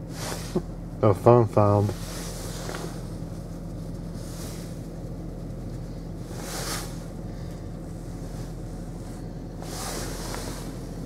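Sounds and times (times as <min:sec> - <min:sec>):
car engine idling hum: 0:00.0 - 0:11.0
heater blower rushing: 0:00.0 - 0:11.0.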